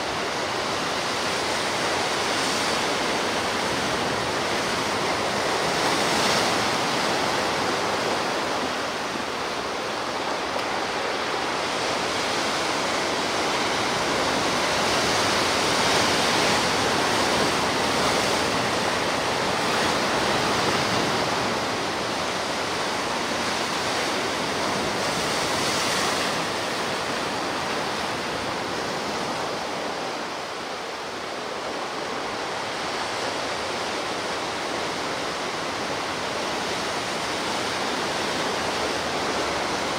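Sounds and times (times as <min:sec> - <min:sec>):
sea surf washing on shore: 0:00.0 - 0:39.9.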